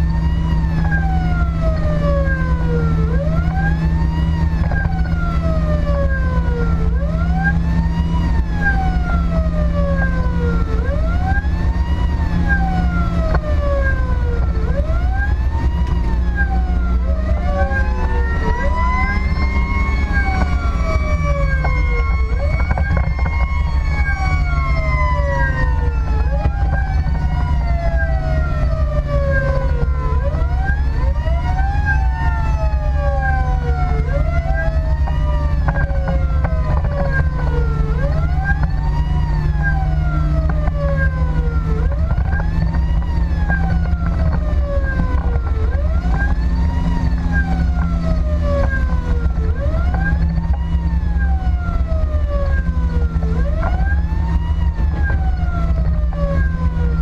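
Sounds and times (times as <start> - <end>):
emergency sirens wailing: 0.0 - 57.0
engine and road drone: 0.0 - 57.0.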